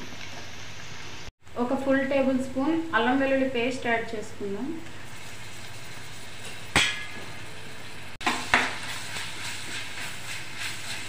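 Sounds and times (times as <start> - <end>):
vegetables sizzling in oil: 1.9 - 11.0.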